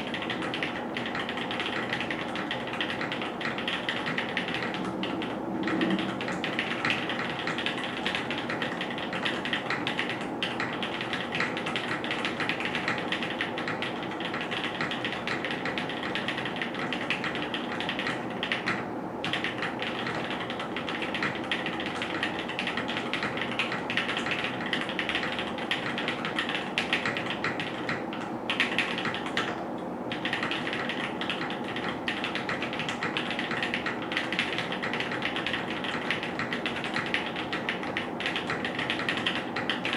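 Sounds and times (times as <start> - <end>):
mechanical keyboard typing: 0.0 - 29.5, 30.1 - 39.9.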